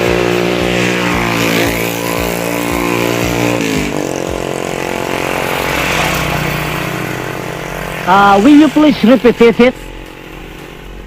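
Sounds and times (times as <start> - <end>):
motorcycle engine slowing and idling: 0.0 - 11.0.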